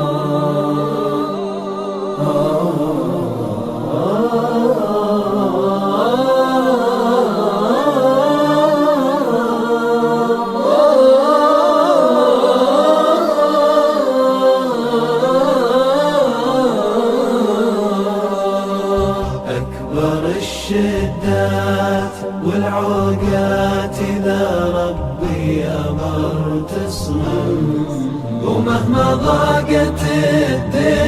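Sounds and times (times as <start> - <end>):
voices chanting a slow melody: 0.0 - 31.0.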